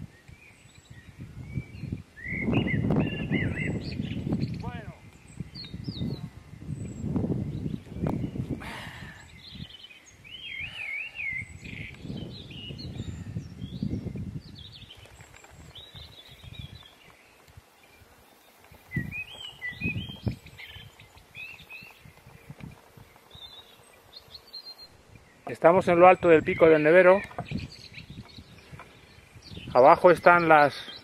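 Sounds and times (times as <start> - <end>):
small birds chirping and trilling: 0.0 - 31.0
wind rumbling on microphone: 0.0 - 31.0.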